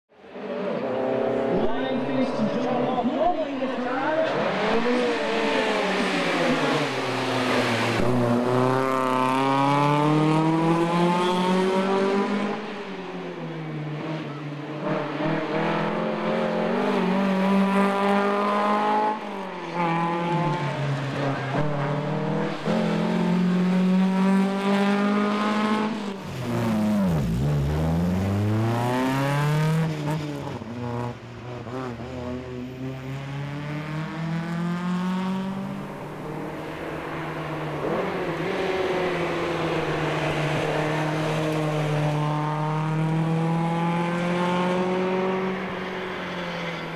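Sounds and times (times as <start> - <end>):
rally car engine revving: 0.4 - 46.9.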